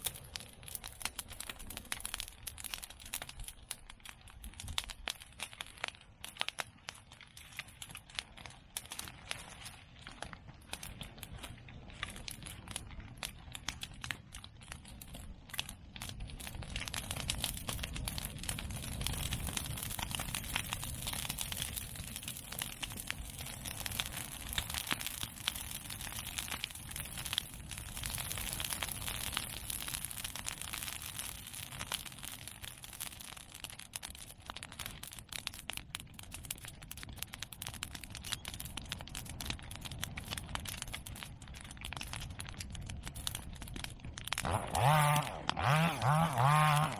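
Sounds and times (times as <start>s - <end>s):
bonfire crackling and popping: 0.0s - 46.9s
low noise of flames: 0.0s - 46.9s.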